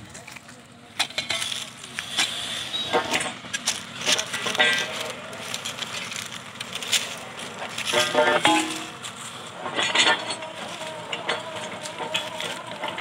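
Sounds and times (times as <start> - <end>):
drilling rig running: 0.0 - 13.0
metallic clanks of pipes: 0.4 - 13.0.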